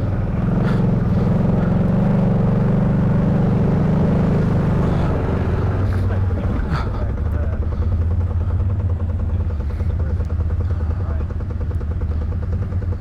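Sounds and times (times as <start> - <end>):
atv engine droning: 0.0 - 13.0.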